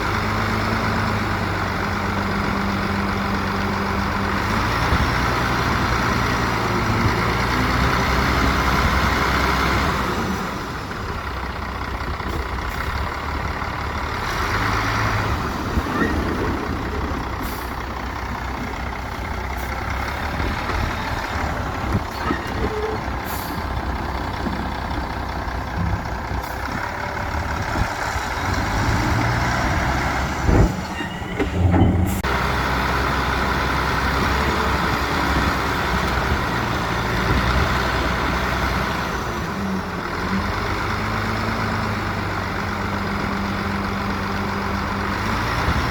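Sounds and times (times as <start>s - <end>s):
diesel machinery engines running: 0.0s - 45.9s.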